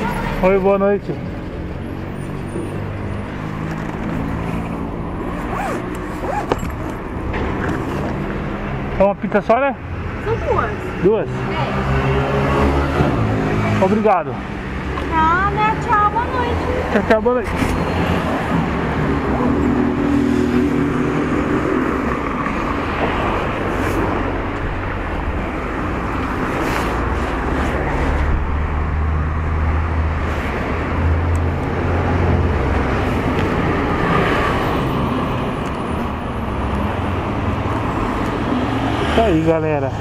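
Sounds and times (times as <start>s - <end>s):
cars driving past: 0.0s - 40.0s.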